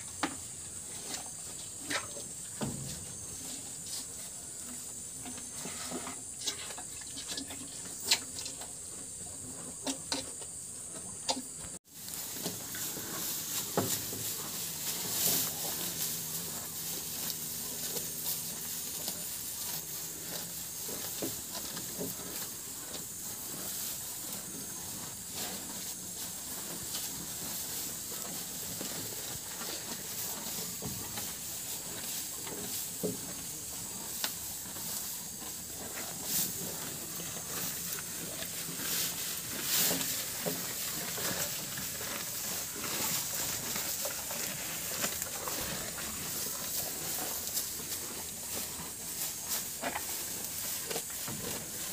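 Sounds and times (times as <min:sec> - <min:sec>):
cows chewing grass: 0:00.0 - 0:51.9.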